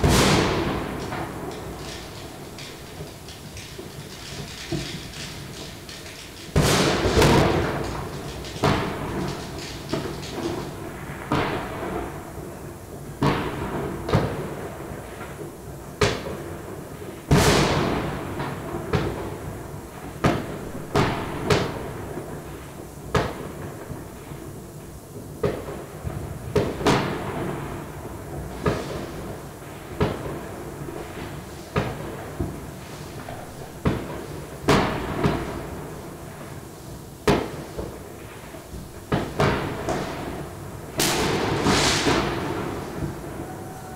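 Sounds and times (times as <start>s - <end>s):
firecracker bangs echoing: 0.0s - 43.9s.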